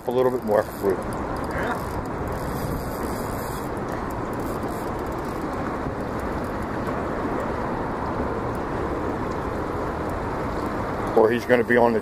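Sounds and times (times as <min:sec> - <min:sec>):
choppy river water: 0:00.0 - 0:12.0
wind rushing on microphone: 0:00.0 - 0:12.0.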